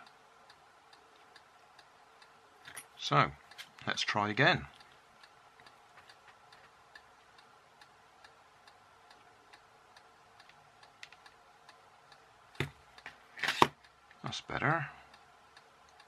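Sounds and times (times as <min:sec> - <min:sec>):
faint regular ticking: 0:00.0 - 0:16.0.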